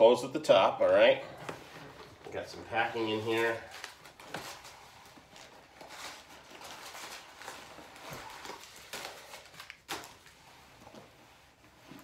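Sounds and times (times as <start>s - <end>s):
packing material rustling: 1.5s - 12.0s.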